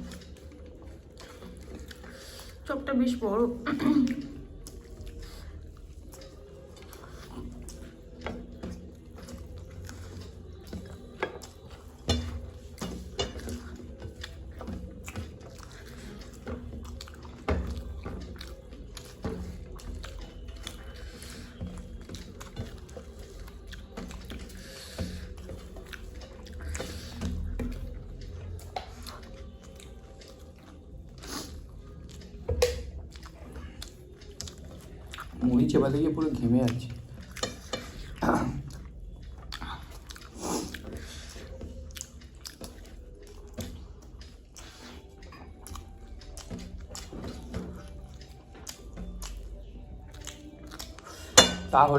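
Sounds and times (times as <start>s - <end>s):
chewing crunchy snacks: 0.0s - 51.9s.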